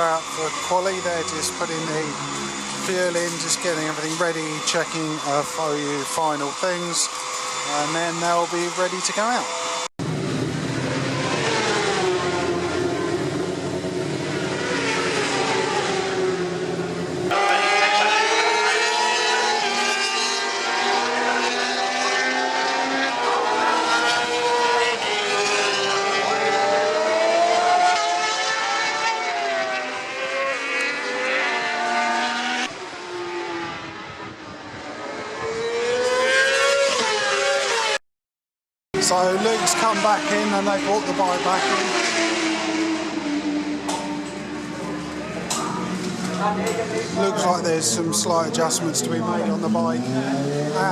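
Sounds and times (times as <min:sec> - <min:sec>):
racing motorcycle engines revving: 0:00.0 - 0:38.0, 0:39.0 - 0:50.9.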